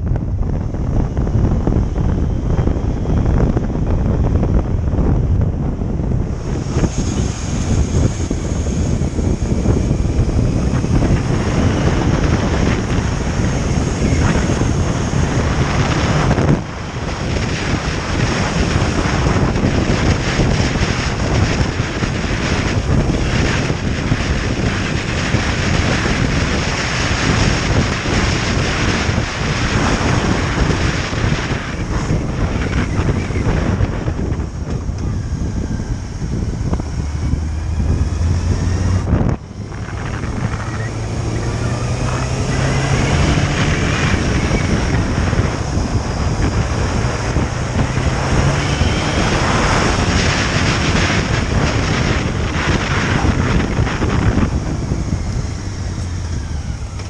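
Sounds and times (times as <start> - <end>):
motorcycle engine: 0.0 - 57.0
road noise: 0.0 - 57.0
wind buffeting microphone: 0.0 - 57.0.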